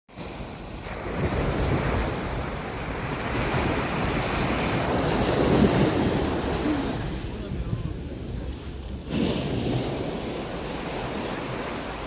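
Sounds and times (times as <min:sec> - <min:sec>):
surf washing onto beach: 0:00.1 - 0:12.0
wind buffeting microphone: 0:00.8 - 0:12.0.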